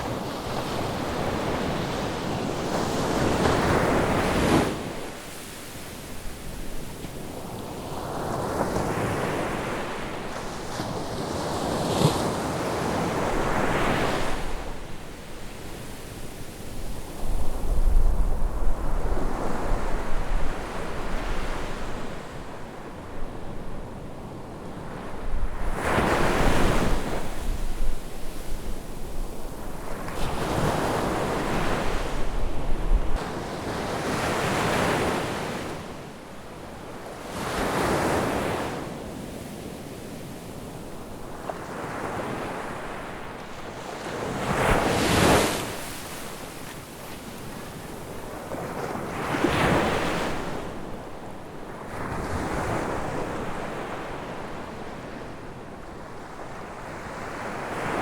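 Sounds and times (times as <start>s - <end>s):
ocean waves breaking on beach: 0.0s - 23.2s, 23.8s - 58.0s.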